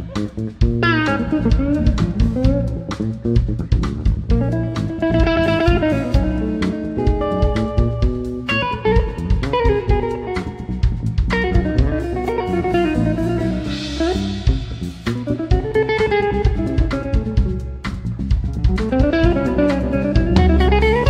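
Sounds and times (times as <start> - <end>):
drum kit: 0.0 - 21.0
electric bass: 0.0 - 21.0
electric guitar lead line: 0.0 - 21.0.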